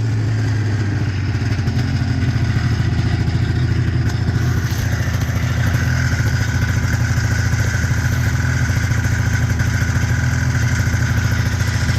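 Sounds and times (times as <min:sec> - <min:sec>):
high whine: 0:00.0 - 0:11.9
snowmobile engine running: 0:00.0 - 0:11.9.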